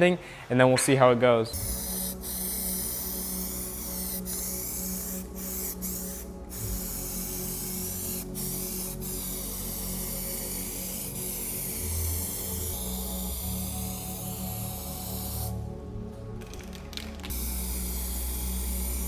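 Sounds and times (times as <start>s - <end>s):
spray gun hissing: 1.6s - 15.7s, 17.3s - 19.0s.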